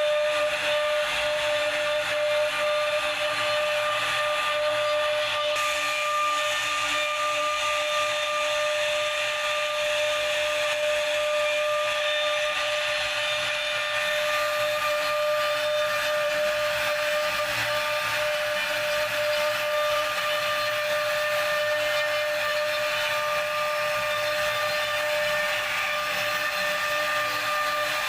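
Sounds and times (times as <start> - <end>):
router bit cutting wood: 0.0 - 28.0
router spindle whine: 0.0 - 28.0.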